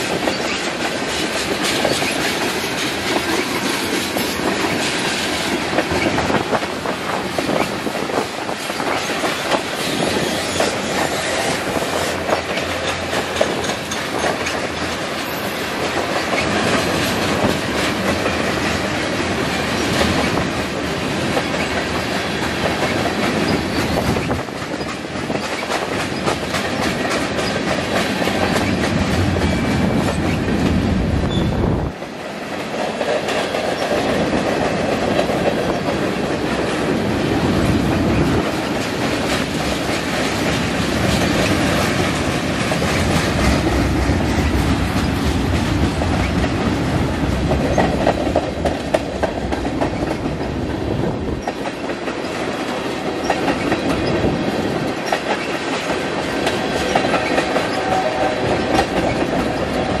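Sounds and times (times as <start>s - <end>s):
freight train cars rolling: 0.0s - 60.0s.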